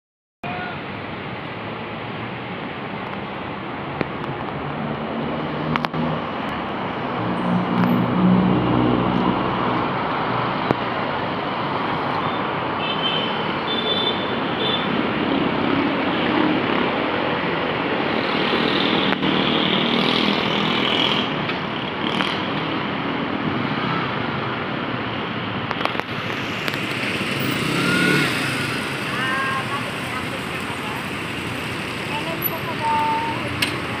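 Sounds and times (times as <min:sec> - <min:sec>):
passing cars and motorcycles: 0:00.5 - 0:34.0.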